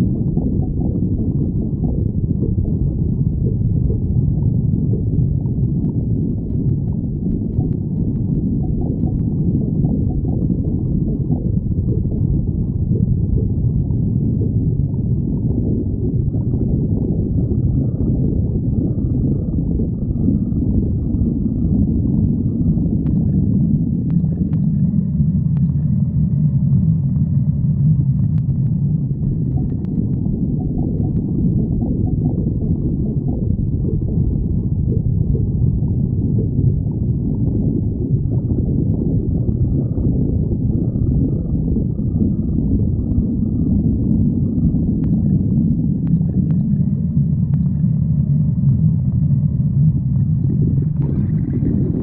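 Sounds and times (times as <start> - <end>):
stomach growling: 0.0 - 52.0.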